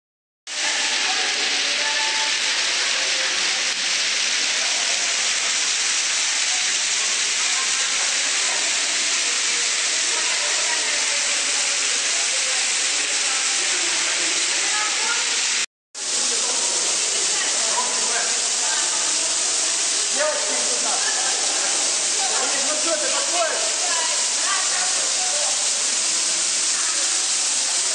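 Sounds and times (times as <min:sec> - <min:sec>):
waterfall splashing into pool: 0:00.5 - 0:27.9.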